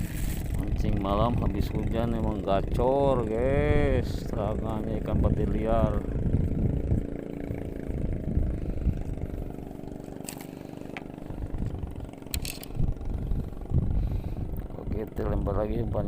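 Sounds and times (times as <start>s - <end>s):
motor humming: 0.0s - 15.6s.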